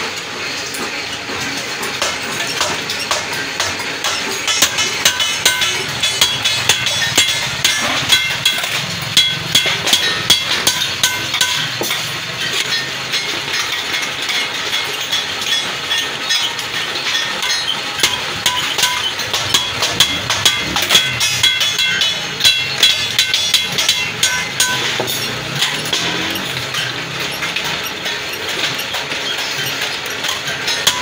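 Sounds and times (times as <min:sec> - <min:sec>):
metallic clicks and clinks: 0:00.1 - 0:31.0
thin metal sheet ringing: 0:01.9 - 0:31.0.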